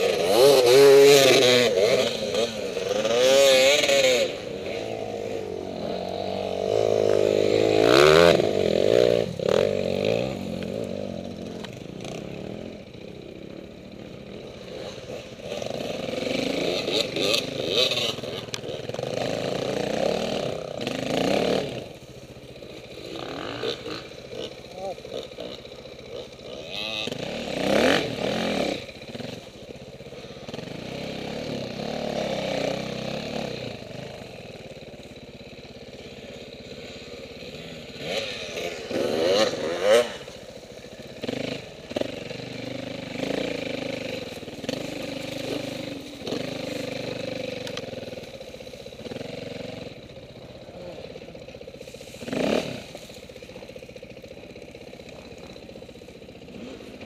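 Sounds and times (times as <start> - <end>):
dirt bikes revving past: 0.0 - 57.0.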